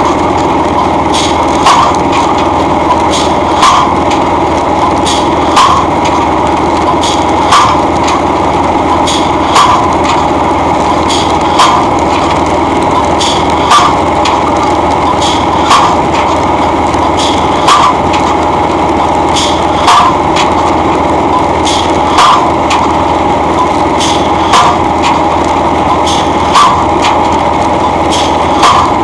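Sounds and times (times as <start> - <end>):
pile-driving hammer pounding pole: 0.0 - 29.0
steady engine-like drone: 0.0 - 29.0.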